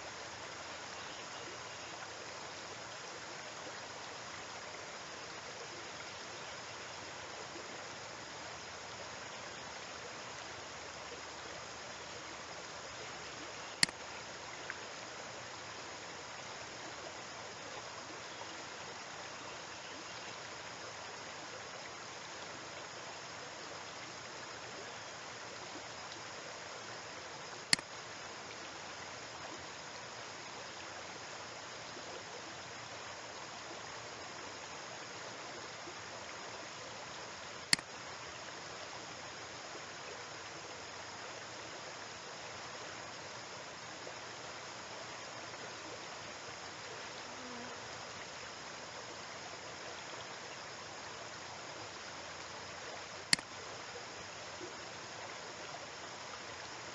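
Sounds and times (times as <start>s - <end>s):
recording noise hiss: 0.0s - 56.9s.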